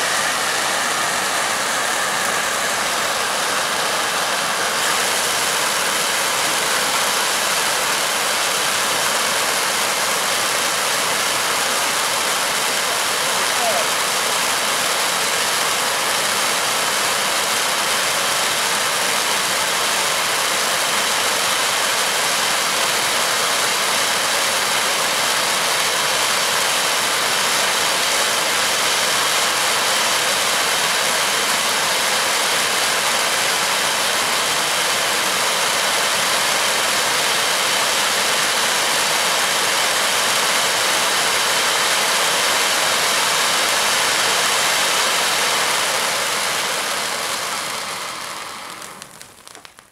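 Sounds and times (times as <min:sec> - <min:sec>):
firework fountains hissing: 0:00.0 - 0:49.9.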